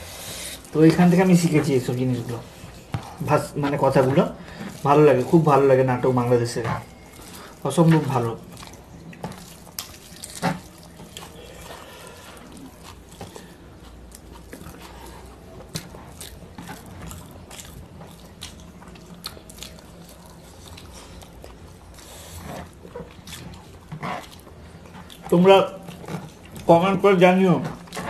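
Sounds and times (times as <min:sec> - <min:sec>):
biting and chewing: 0:00.0 - 0:28.0.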